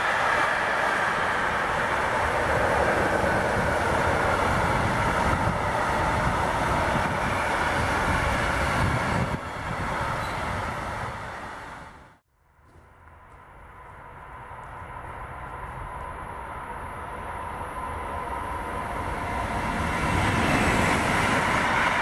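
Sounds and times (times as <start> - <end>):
freight train wheels on rail: 0.0 - 22.0.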